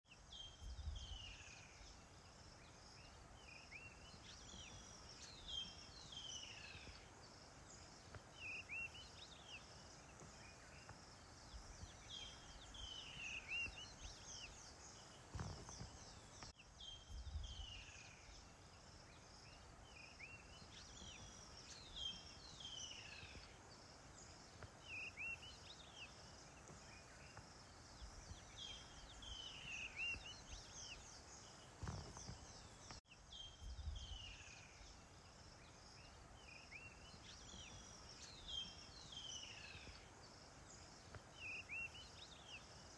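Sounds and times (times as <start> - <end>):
insect hiss: 0.1 - 42.9.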